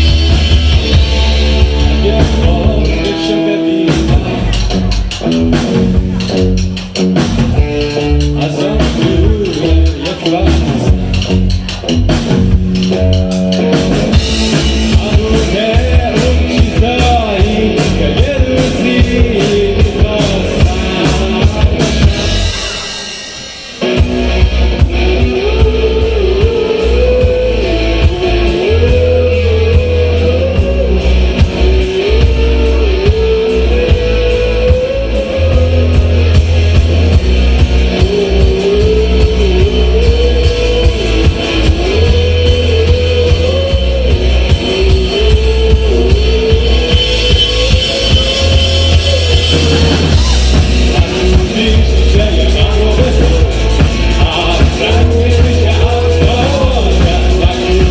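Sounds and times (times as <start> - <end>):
rock band music: 0.0 - 57.9.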